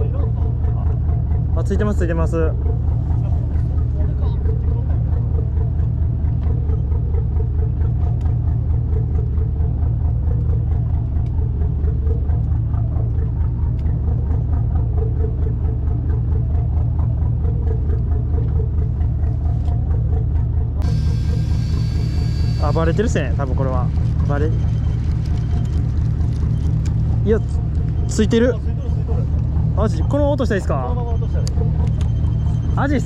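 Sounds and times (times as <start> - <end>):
boat engine idling: 0.0 - 33.0.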